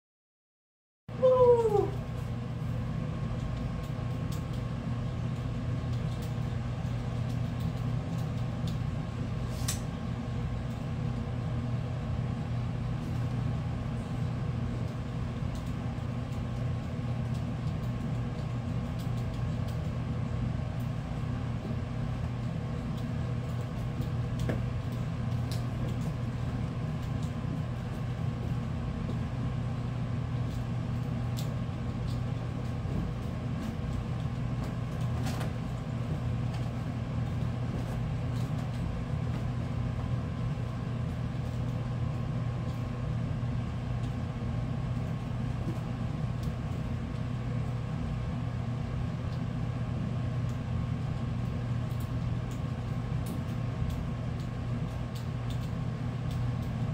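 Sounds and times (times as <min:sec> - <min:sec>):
low mechanical hum: 0:01.1 - 0:56.9.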